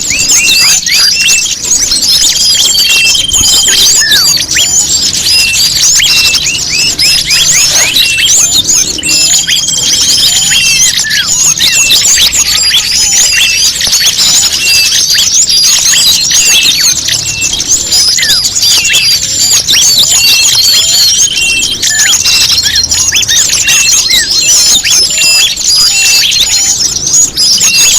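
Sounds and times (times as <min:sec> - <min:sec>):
buzzy bird trill: 0:00.0 - 0:27.9
songbirds chirping: 0:00.0 - 0:27.9.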